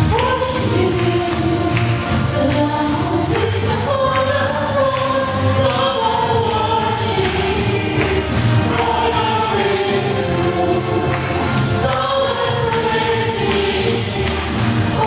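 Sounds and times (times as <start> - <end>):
backing music with beat: 0.0 - 15.0
gospel choir singing: 0.2 - 15.0.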